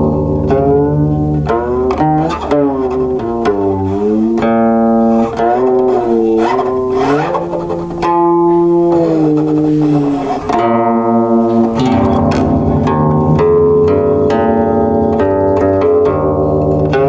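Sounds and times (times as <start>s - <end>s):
plucked zither notes sliding: 0.0s - 17.0s.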